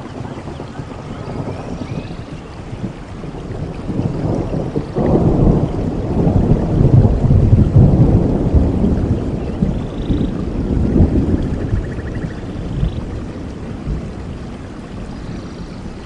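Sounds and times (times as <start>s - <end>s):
rolling thunder: 0.0s - 16.0s
steady rain: 0.0s - 16.0s.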